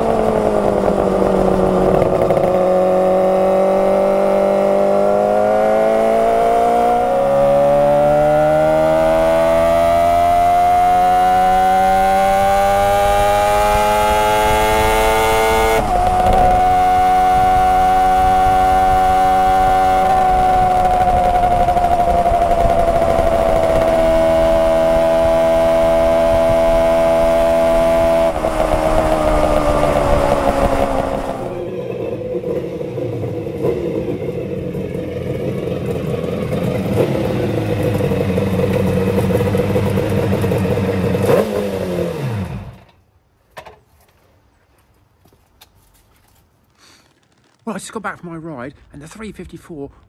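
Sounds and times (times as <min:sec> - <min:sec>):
motorcycle engine buzzing: 0:00.0 - 0:43.0.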